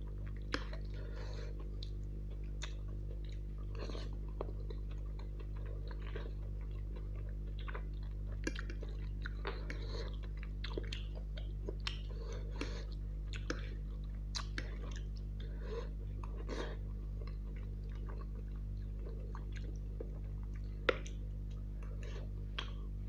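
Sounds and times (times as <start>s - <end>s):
steady low hum: 0.0s - 23.0s
chewing and slurping noodles: 0.2s - 22.7s.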